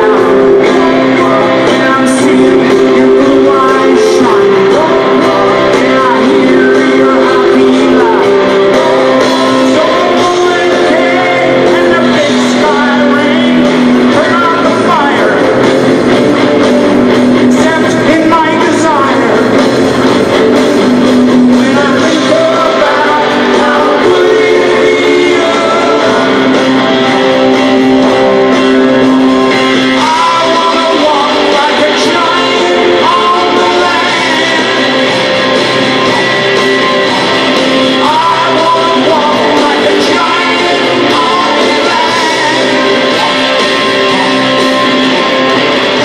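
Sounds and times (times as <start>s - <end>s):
person singing: 0.0s - 15.7s, 17.3s - 19.6s, 21.4s - 46.0s
electric guitars with sliding bends: 0.0s - 46.0s
rock band playing live: 0.0s - 46.0s.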